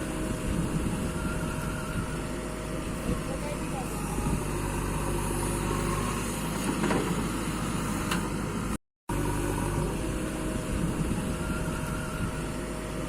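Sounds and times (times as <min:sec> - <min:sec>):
heavy machinery engine: 0:00.0 - 0:13.0.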